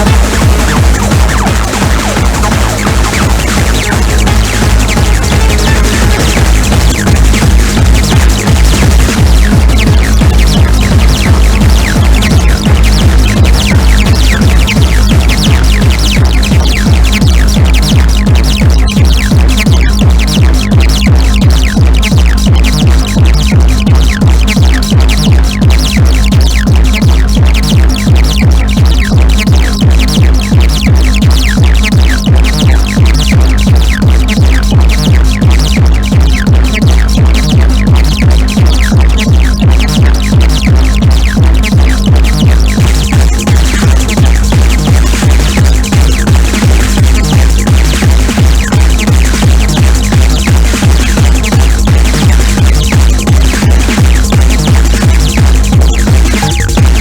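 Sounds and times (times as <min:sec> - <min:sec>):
techno dance music: 0:00.0 - 0:57.0.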